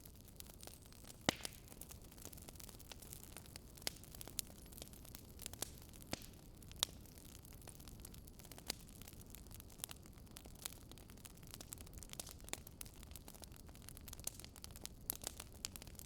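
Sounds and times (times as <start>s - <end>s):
faint steady hiss: 0.0s - 16.0s
wood fire crackling: 0.0s - 16.0s.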